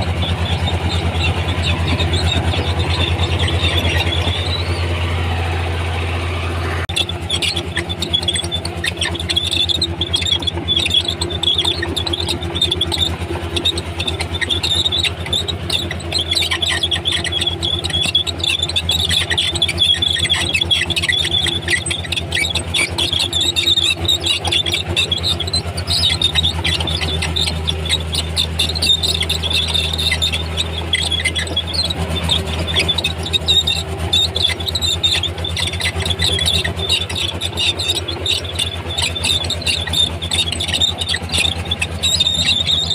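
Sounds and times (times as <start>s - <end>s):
diesel engine drone: 0.0s - 42.9s
steel tracks squealing: 0.0s - 42.9s.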